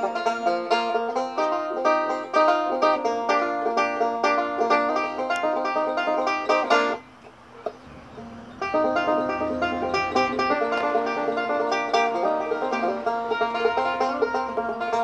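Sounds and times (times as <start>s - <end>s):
banjo fingerpicking: 0.0s - 15.0s.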